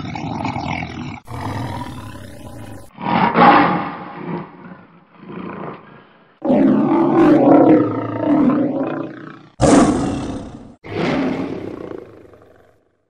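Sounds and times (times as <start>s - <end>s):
lion roaring: 0.0s - 12.9s.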